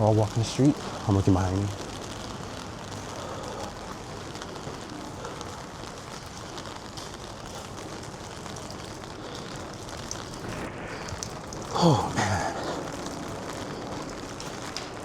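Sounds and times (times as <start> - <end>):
faint raindrop ticks: 0.0 - 15.0
steady rain hiss: 0.0 - 15.0.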